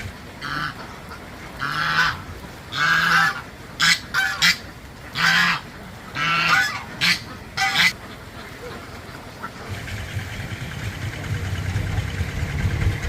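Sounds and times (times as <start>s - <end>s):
ducks quacking: 0.0s - 12.3s.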